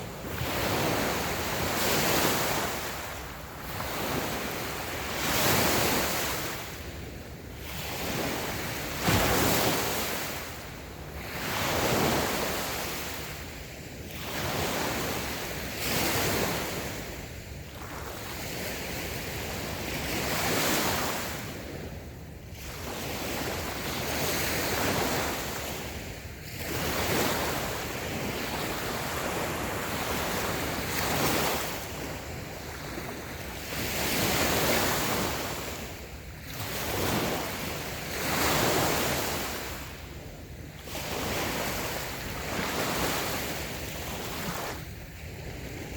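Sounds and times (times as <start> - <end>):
small waves breaking on sand: 0.0 - 45.9
wind noise on microphone: 0.0 - 45.9.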